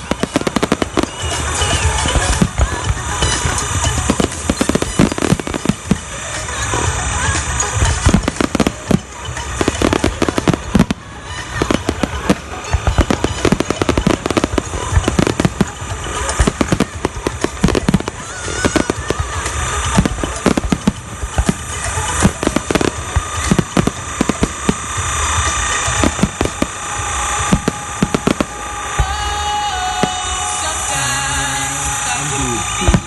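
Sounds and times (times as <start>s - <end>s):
fireworks bangs and bursts: 0.0s - 33.0s.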